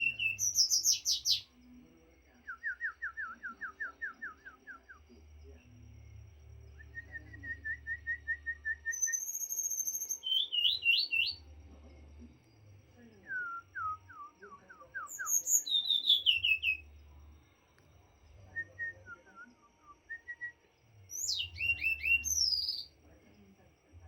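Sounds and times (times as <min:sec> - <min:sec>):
songbird singing: 0:00.0 - 0:23.5.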